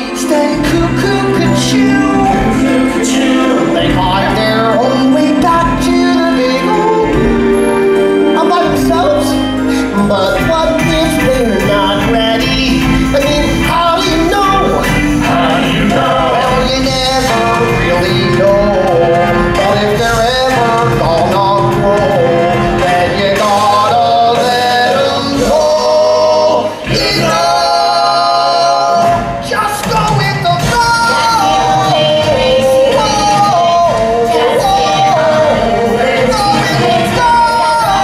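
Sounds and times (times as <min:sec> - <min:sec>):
band accompaniment: 0:00.0 - 0:38.0
chorus singing: 0:00.0 - 0:38.0
man singing: 0:00.0 - 0:38.0.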